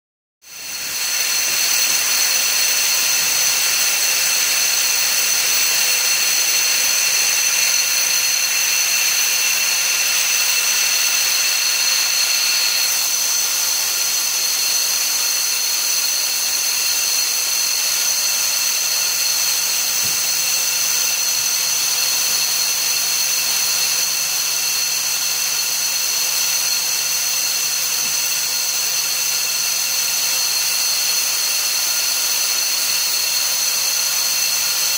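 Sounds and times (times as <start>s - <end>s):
high-pitched machine whine: 0.4s - 34.9s
machine hiss: 0.5s - 34.9s.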